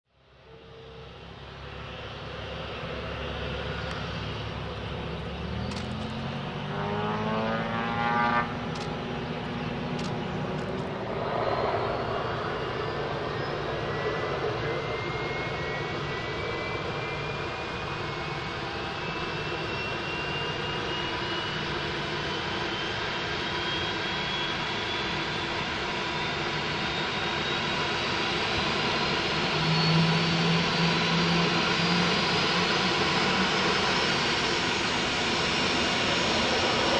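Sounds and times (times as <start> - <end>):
jet engines running: 0.2 - 36.9.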